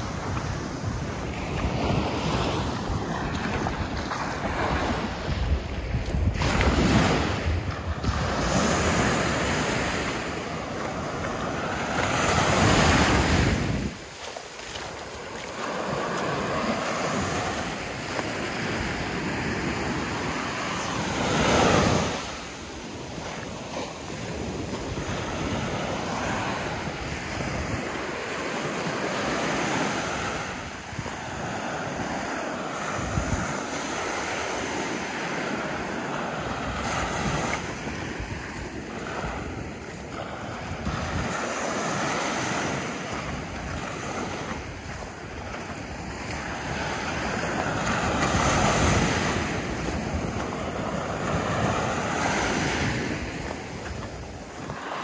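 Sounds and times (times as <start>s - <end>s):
surf breaking on sandy beach: 0.0s - 55.0s
wind buffeting microphone: 0.0s - 55.0s.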